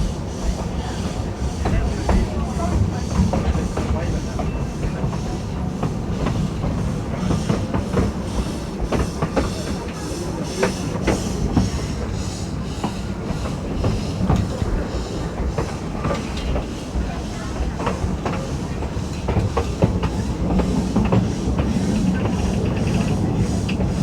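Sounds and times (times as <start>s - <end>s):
railway carriage rumbling: 0.0s - 24.0s
wheels clacking on rails: 0.0s - 24.0s.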